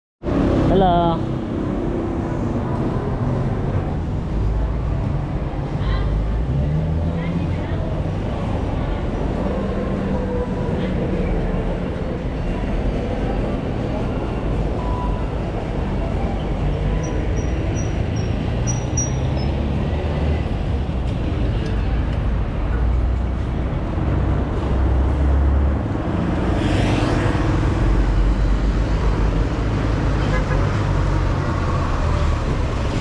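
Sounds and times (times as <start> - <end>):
road traffic rumble: 0.2 - 33.0.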